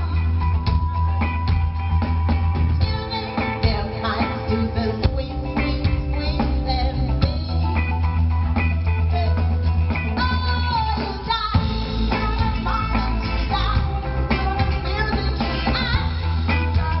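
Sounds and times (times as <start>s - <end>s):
woman singing: 0.0s - 1.7s, 2.7s - 8.1s, 8.9s - 17.0s
live band playing upbeat song: 0.0s - 17.0s.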